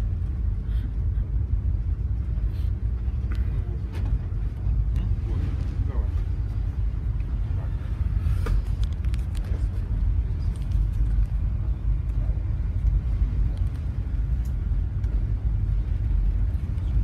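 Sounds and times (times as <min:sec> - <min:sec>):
ship engine low rumble: 0:00.0 - 0:17.0.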